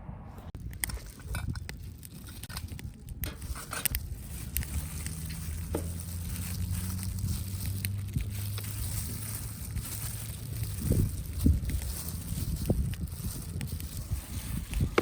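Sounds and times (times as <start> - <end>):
low steady hum: 0.0 - 15.0
campfire crackling: 0.6 - 15.0.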